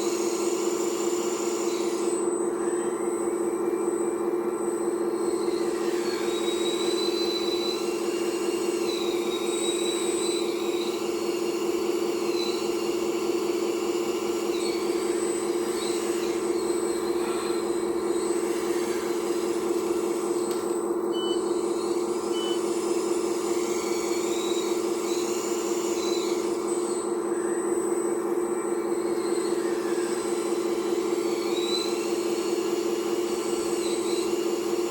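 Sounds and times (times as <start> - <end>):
electric pump motor hum: 0.0 - 34.9
hydraulic whines: 0.0 - 34.9.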